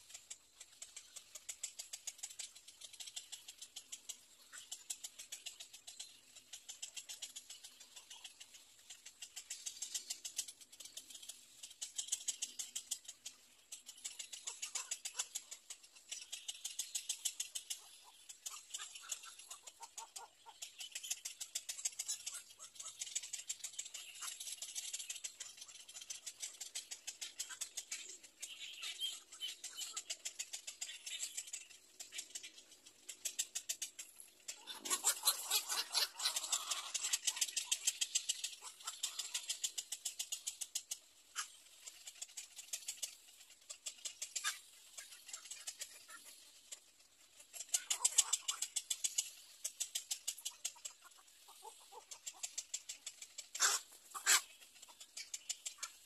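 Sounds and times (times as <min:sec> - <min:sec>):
bird chicks clicking chatter: 0:00.0 - 0:56.0.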